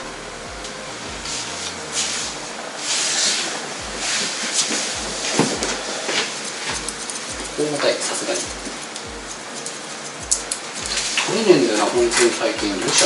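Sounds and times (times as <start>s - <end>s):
comb rustling through hair: 1.3s - 13.0s.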